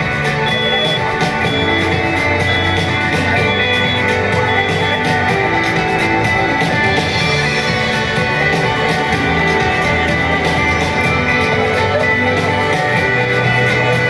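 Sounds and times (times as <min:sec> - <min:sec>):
music with steady beat: 0:00.0 - 0:14.0.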